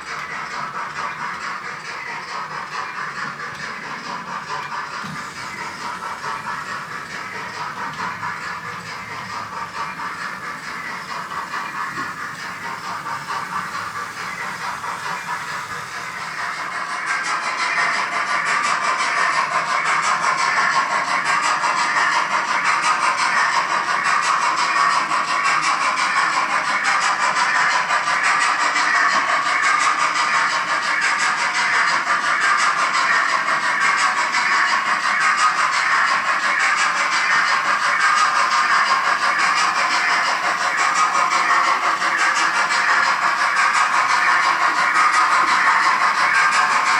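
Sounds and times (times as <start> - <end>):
model train rattling on track: 0.0 - 46.9
steam hiss and chuff: 0.0 - 46.9.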